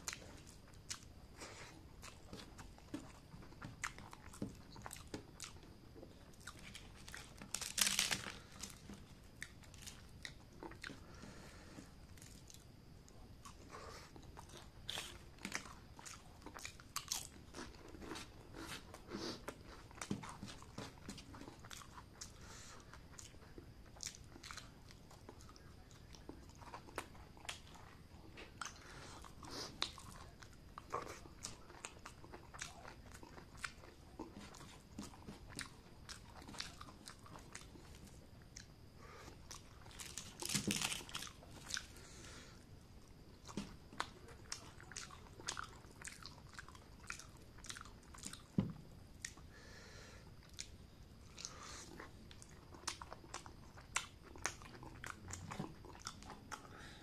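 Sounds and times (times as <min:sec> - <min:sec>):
person chewing and crunching: 0:00.0 - 0:49.4, 0:50.4 - 0:57.0.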